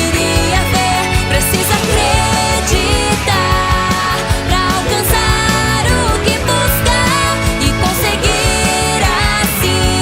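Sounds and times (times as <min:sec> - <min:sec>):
pop music with woman singing: 0:00.0 - 0:10.0.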